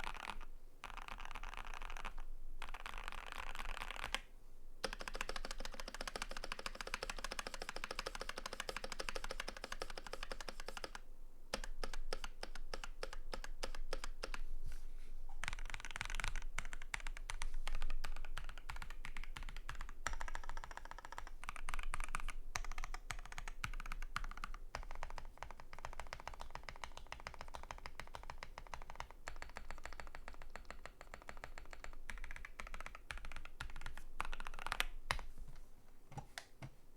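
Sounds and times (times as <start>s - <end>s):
typing on mechanical keyboard: 0.0s - 4.2s, 4.8s - 11.0s, 11.6s - 14.4s, 15.4s - 35.2s.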